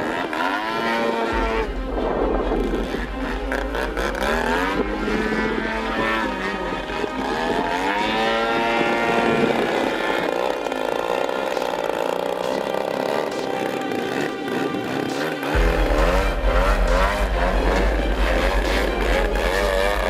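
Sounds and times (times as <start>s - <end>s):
model plane engine: 0.0s - 20.0s.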